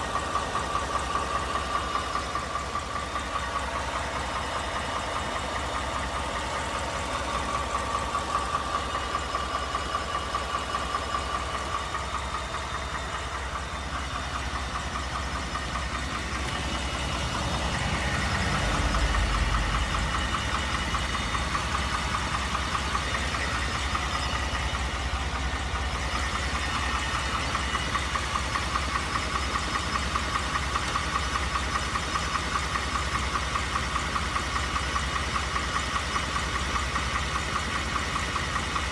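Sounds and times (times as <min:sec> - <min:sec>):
engine idling with rapid knock: 0:00.0 - 0:38.9.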